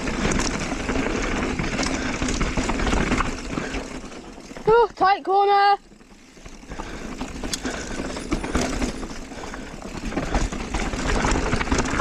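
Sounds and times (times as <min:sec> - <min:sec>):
bike rattling clicks: 0:00.0 - 0:12.0
tyres on dirt trail: 0:00.0 - 0:12.0.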